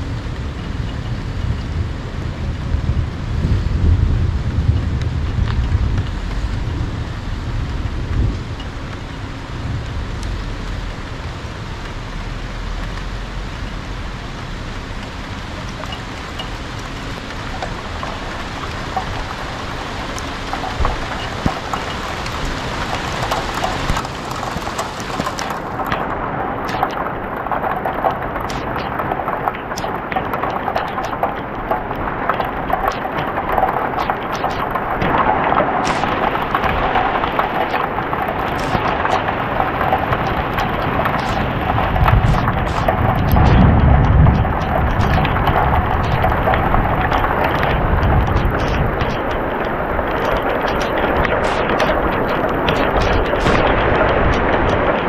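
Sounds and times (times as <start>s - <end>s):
rain falling: 0.0s - 55.0s
thunder rumble: 0.0s - 55.0s
sharp raindrop taps: 4.5s - 55.0s.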